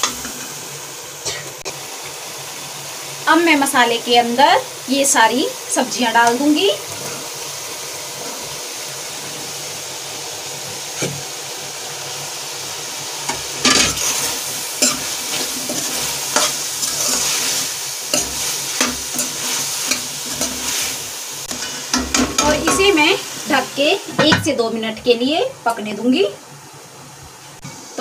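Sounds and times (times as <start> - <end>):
vegetables sizzling in pot: 0.0 - 28.0.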